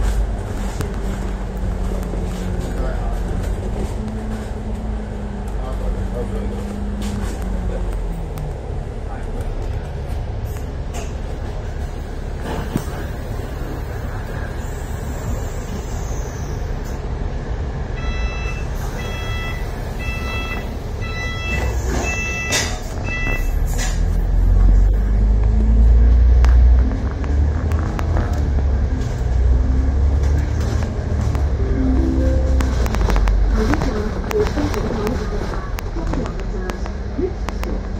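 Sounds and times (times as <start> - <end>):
bus engine: 0.0 - 37.9
road rumble: 0.0 - 37.9.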